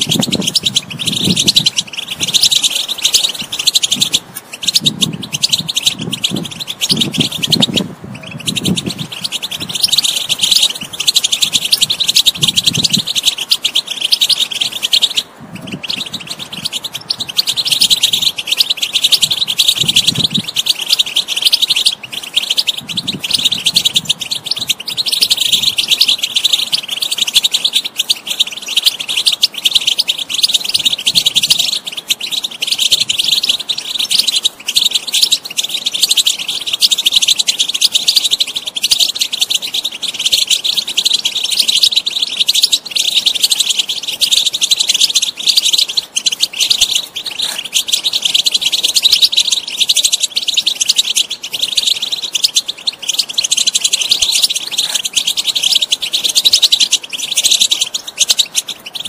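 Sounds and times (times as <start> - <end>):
goldfinch twittering song: 0.0 - 59.0.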